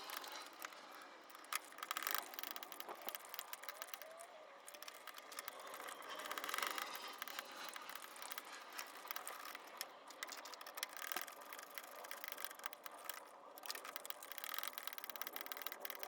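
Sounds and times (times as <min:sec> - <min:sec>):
sharp metal clicks: 0:00.0 - 0:16.0
ratchet wrench clicking: 0:01.4 - 0:16.0.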